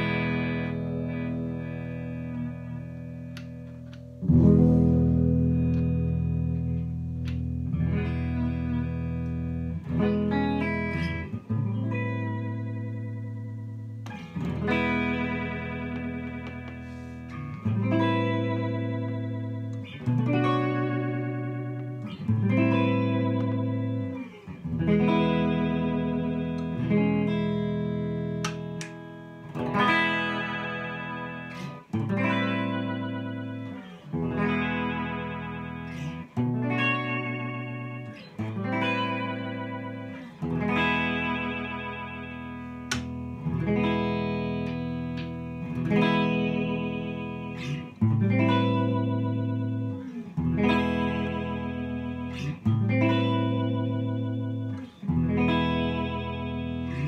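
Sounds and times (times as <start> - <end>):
electric guitar chords strummed: 0.0 - 57.0.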